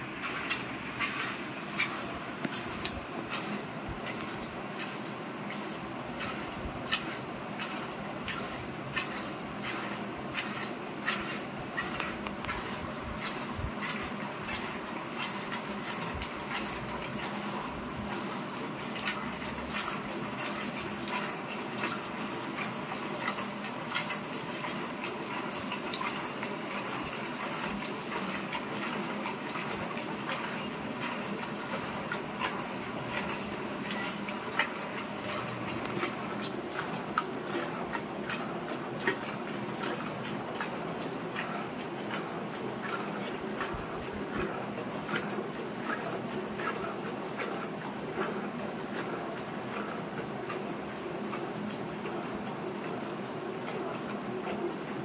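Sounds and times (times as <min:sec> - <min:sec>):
milk squirting into milk: 0:00.2 - 0:54.9.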